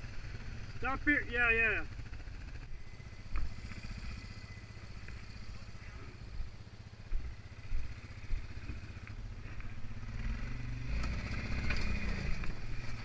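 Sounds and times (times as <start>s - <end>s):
quad engine running and revving: 0.0s - 13.0s.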